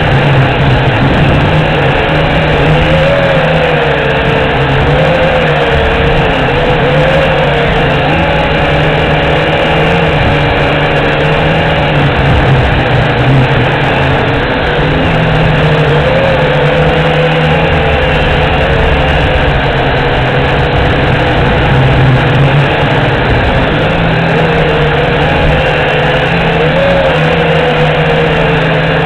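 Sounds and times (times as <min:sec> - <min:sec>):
drone motors whining: 0:00.0 - 0:29.0
wind rumbling on microphone: 0:00.0 - 0:29.0.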